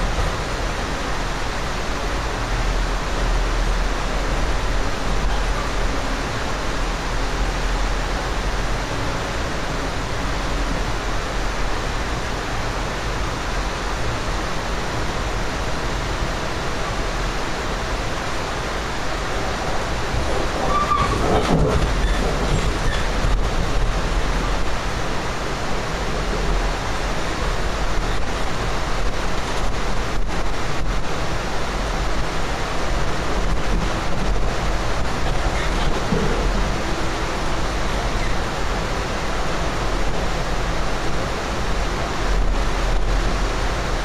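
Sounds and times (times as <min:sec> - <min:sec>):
train rumbling from inside: 0:00.0 - 0:44.0.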